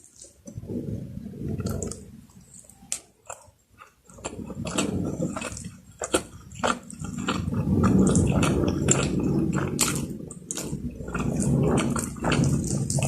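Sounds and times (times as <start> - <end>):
chewing with wet mouth clicks: 1.5 - 13.0.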